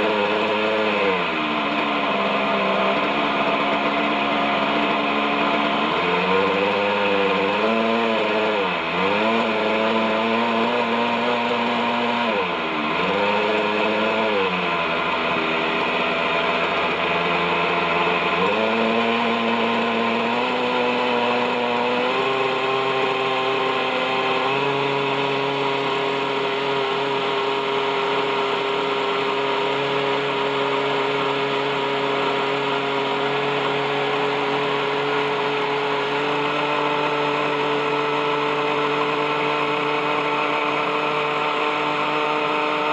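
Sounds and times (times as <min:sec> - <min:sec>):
model helicopter engine running: 0:00.0 - 0:42.9.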